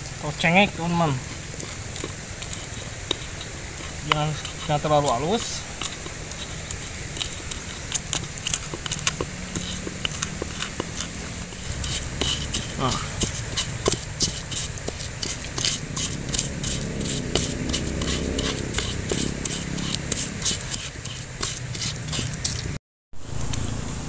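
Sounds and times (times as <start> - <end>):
stone scraping in wooden mortar: 0.0 - 22.8.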